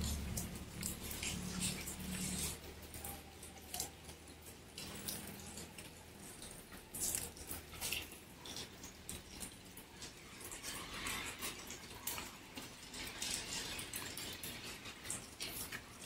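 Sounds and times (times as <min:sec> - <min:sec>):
rainwater dripping: 0:00.0 - 0:16.0.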